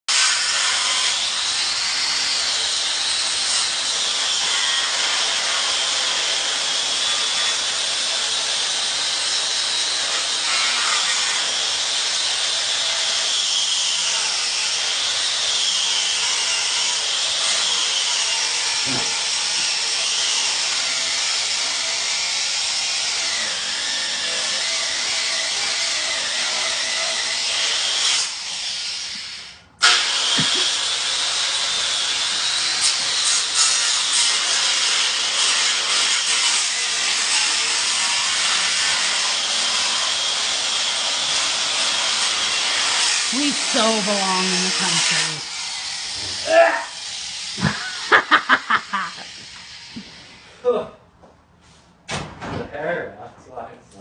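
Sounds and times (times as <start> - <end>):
power tool whining: 0.1 - 50.5.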